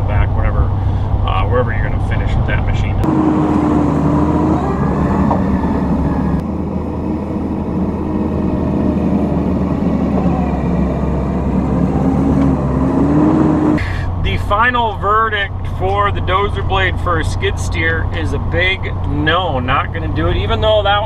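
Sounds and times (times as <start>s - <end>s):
diesel engine running hard: 0.0s - 21.0s.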